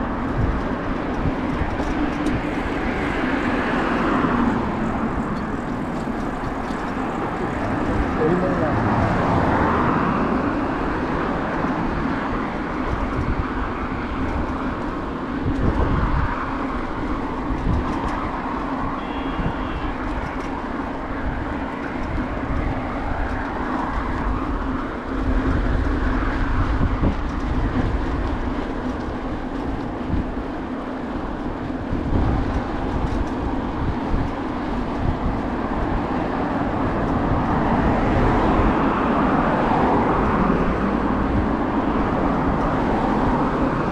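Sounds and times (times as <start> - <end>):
bicycle tyres rolling on pavement: 0.0 - 43.9
wind hitting microphone: 0.0 - 43.9.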